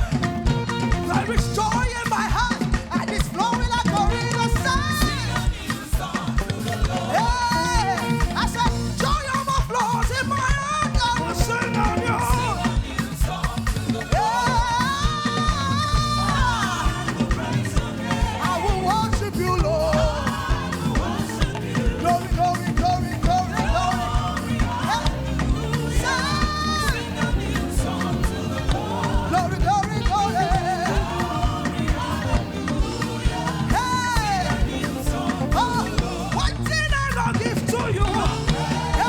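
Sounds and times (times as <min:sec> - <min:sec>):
band playing worship music: 0:00.0 - 0:39.0
lead singer singing: 0:00.0 - 0:39.0.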